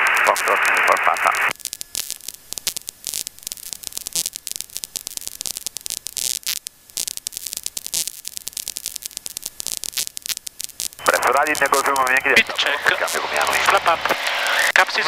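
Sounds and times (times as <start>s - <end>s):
faint hum: 0.0s - 15.0s
radio static crackling: 0.0s - 15.0s.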